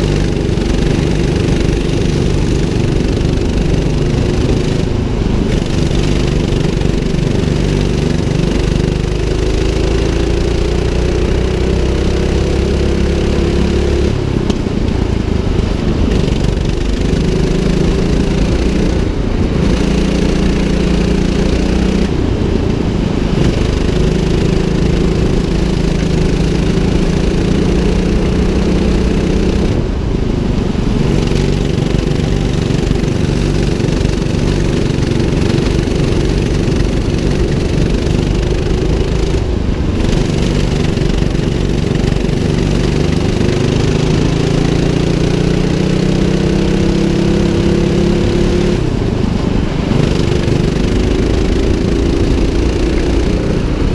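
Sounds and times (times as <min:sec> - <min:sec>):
go-kart engine revving: 0:00.0 - 0:53.9.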